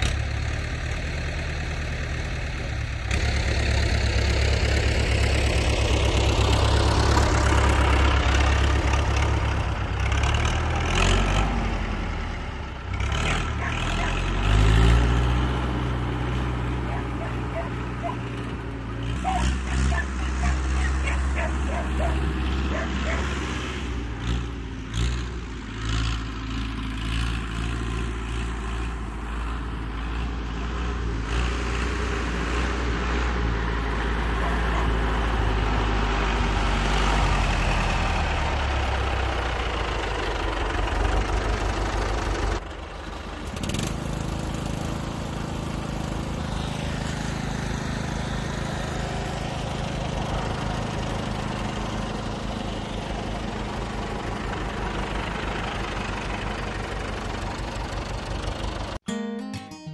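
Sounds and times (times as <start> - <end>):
tractor engine running: 0.0 - 59.2.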